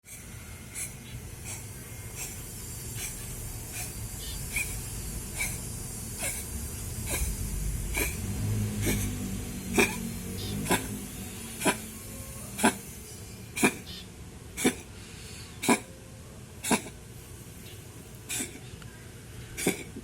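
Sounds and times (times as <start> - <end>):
cat wheezing: 0.0 - 16.0, 16.6 - 17.0, 18.3 - 18.7, 19.5 - 20.0.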